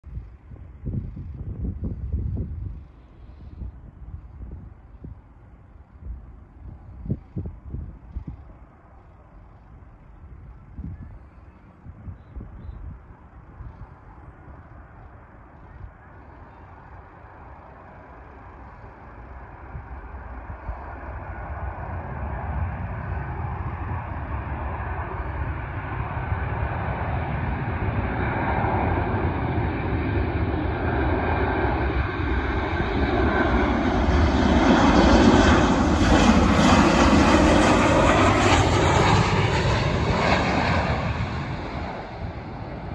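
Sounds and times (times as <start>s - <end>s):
jet airliner engine noise: 0.1s - 42.9s.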